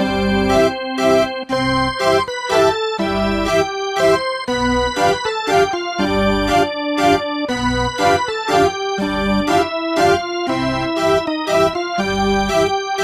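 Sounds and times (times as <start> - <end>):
keyboard chords over steady beat: 0.0 - 13.0.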